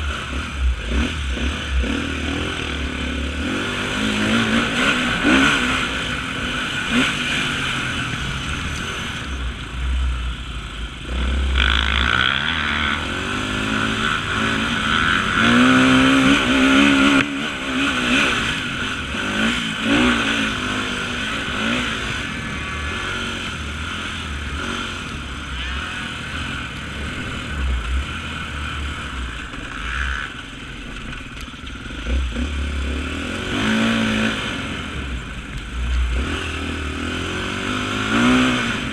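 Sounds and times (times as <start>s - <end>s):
motorcycle engine revving: 0.0s - 38.9s
rumbling and rattle: 0.0s - 38.9s.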